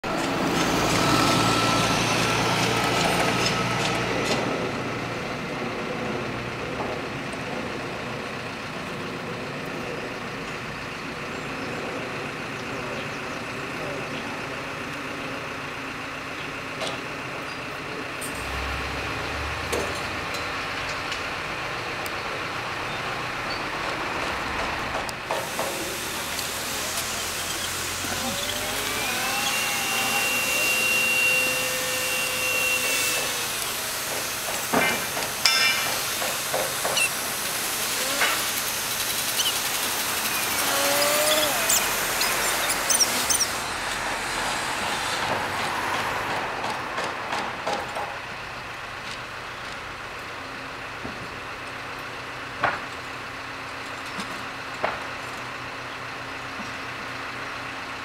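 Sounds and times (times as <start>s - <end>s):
bus passing: 0.0s - 58.0s
road traffic passing: 0.0s - 58.0s.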